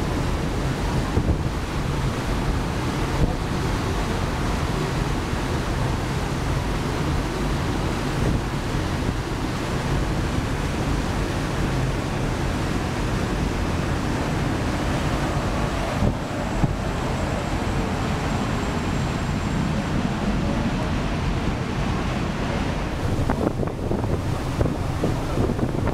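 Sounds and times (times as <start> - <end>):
wind buffeting microphone: 0.0 - 3.7, 5.4 - 25.9
faint high whine of passing boat: 0.0 - 25.9
rush of water from wake: 0.0 - 25.9.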